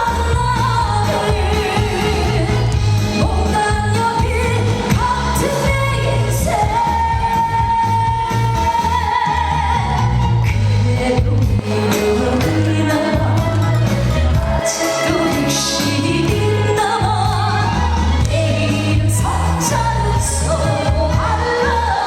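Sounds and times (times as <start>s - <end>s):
backing music with bass beat: 0.0s - 22.0s
person singing with vibrato: 0.0s - 22.0s.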